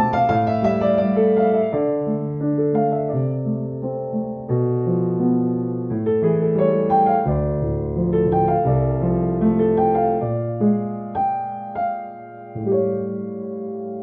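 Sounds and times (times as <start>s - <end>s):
slow piano piece: 0.0s - 14.0s.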